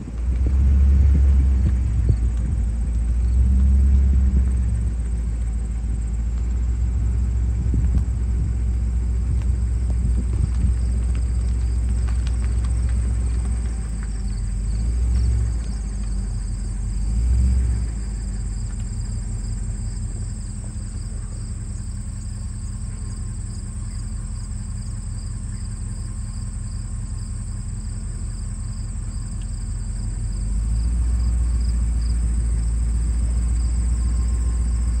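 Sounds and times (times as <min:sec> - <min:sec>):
low outdoor rumble: 0:00.0 - 0:35.0
insects chirring: 0:00.4 - 0:35.0.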